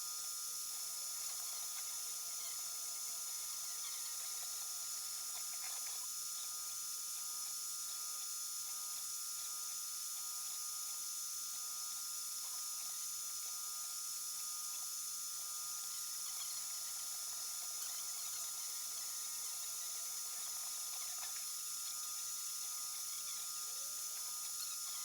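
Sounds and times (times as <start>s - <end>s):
fan hum and hiss: 0.0s - 25.0s.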